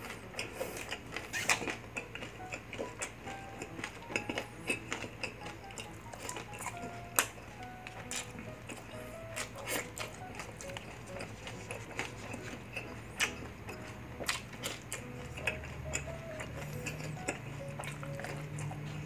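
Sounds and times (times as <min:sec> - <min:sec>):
person chewing: 0:00.0 - 0:19.0
soft music with ticking beat: 0:00.0 - 0:19.0.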